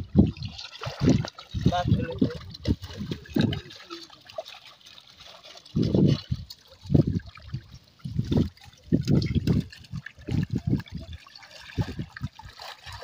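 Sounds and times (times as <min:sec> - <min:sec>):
water trickling and sloshing: 0:00.0 - 0:13.0.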